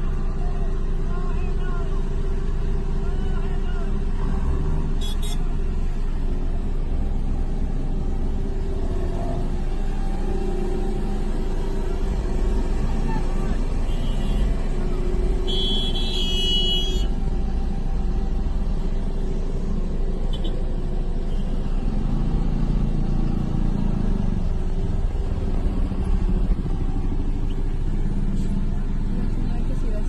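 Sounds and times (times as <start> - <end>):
traffic engines rumbling: 0.0 - 30.0.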